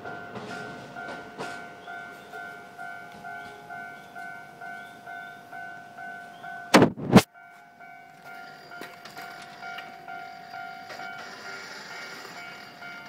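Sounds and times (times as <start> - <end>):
approaching train: 0.0 - 13.0
level-crossing warning bell ringing: 0.0 - 13.0.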